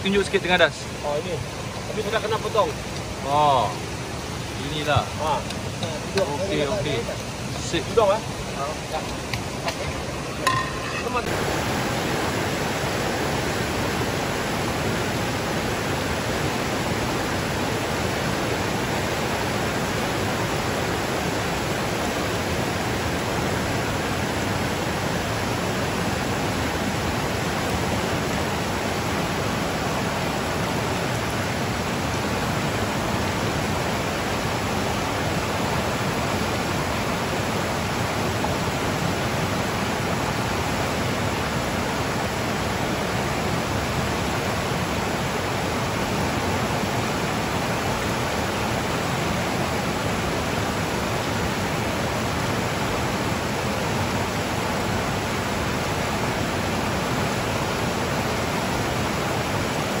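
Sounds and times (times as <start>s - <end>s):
water rushing over rocks: 0.0s - 60.0s.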